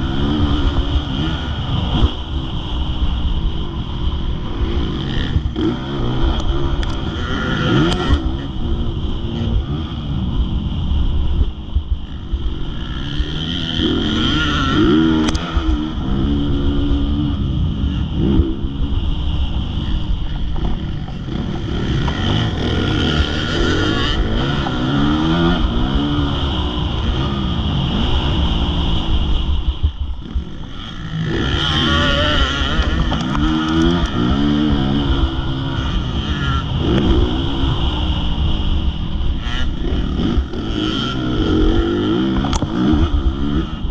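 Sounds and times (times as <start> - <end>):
motocross motorcycle engine revving: 0.0 - 11.4, 12.0 - 43.9.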